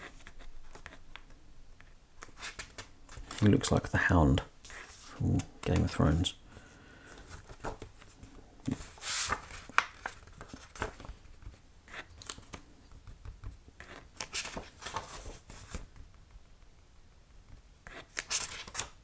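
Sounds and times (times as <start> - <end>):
sketchbook pages rustling: 0.0 - 16.1, 17.8 - 19.0.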